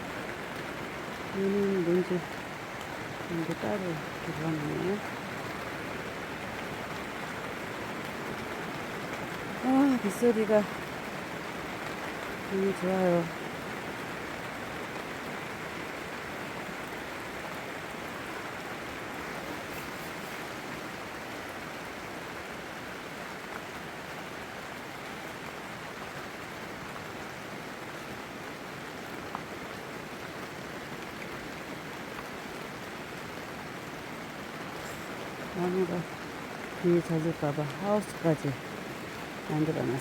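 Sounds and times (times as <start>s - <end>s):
steady rain hissing: 0.0s - 40.0s.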